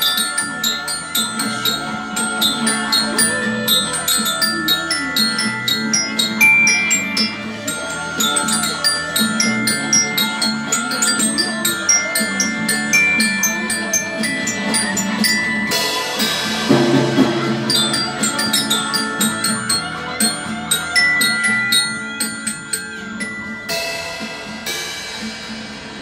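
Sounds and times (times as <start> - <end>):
glockenspiel melody: 0.0 - 25.5
recorded backing song: 0.0 - 26.0.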